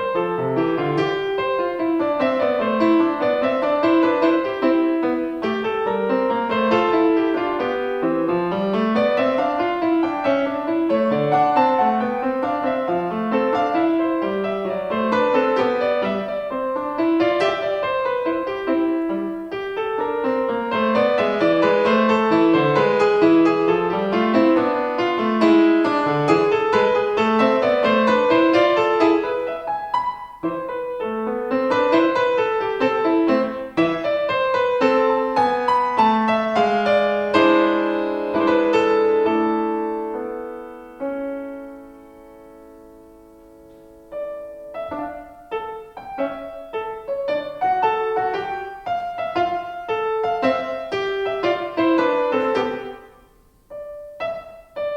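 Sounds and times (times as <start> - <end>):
solo piano slow melody: 0.0 - 54.9.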